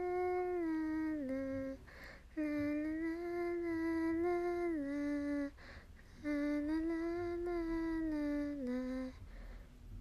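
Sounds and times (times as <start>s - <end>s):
woman humming a lullaby: 0.0s - 9.2s.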